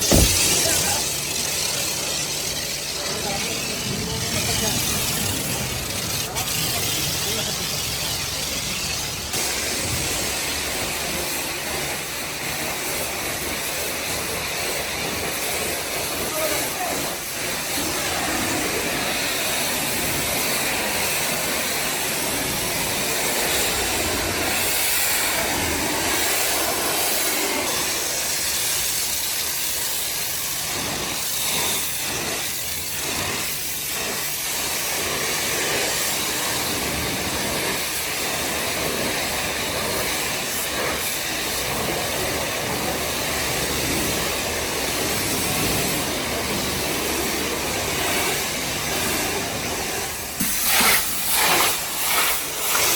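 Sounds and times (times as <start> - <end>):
pressure washer spray hissing: 0.0 - 52.9.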